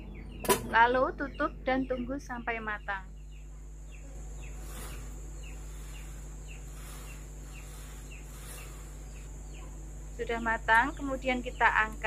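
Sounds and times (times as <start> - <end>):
small bird chirping: 0.0 - 12.0
steady low hum: 0.0 - 12.0.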